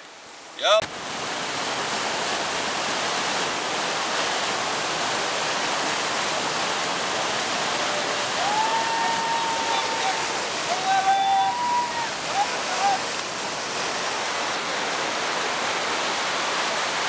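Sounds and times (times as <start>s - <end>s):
river rapid rushing: 0.0s - 17.0s.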